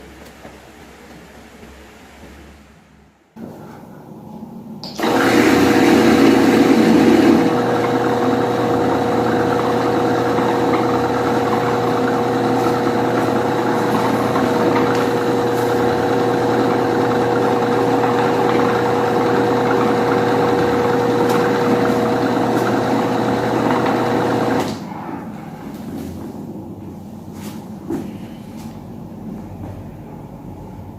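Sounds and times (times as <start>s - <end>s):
electric fan whirring: 0.0s - 30.9s.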